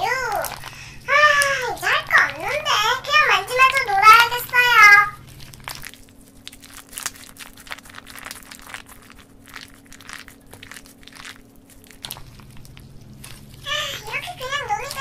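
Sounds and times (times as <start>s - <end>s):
faint steady hum: 0.0s - 15.0s
hands squishing slime: 0.0s - 15.0s.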